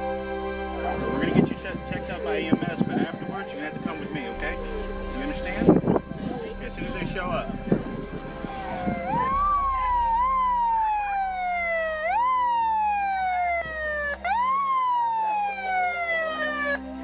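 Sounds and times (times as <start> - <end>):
emergency vehicle siren wailing: 0.8 - 17.0.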